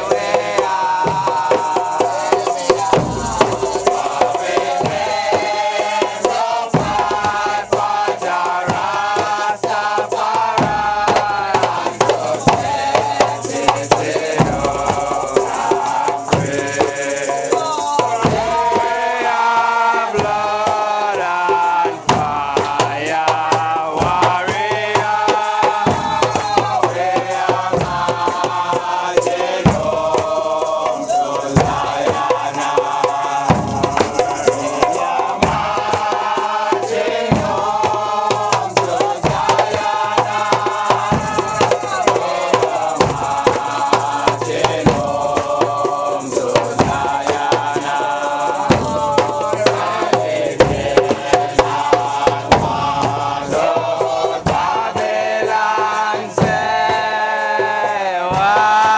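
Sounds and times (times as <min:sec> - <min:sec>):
congregation chanting and singing: 0:00.0 - 0:58.9
hand drums: 0:00.0 - 0:58.9.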